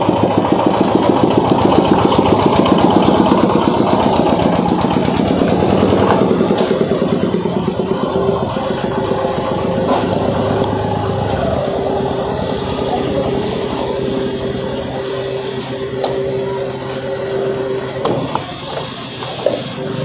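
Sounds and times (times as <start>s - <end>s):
fuel pump humming: 0.0s - 20.0s.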